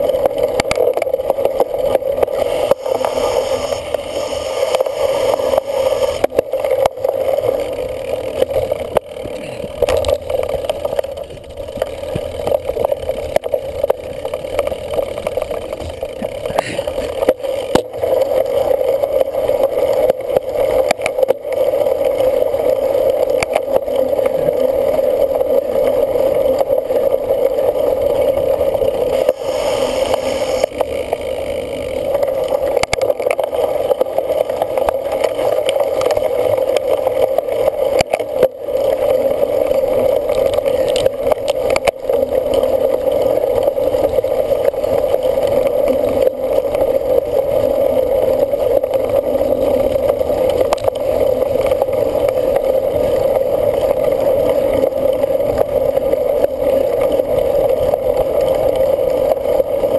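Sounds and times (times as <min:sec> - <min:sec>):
bike rattling on rough ground: 0:00.0 - 0:03.4, 0:06.2 - 0:29.2, 0:30.2 - 0:59.9
bike tyres and drivetrain running: 0:00.0 - 0:59.9.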